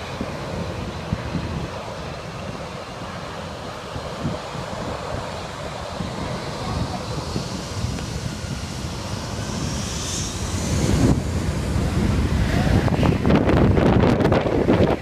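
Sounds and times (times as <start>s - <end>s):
jet blast wind buffeting: 0.0s - 15.0s
jet engines throttling up: 0.0s - 15.0s.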